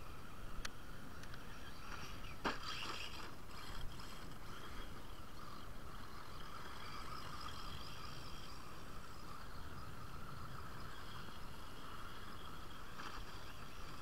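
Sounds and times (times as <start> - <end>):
radio-controlled car motor whine: 0.0 - 14.0
tyres driving over dirt: 0.6 - 14.0.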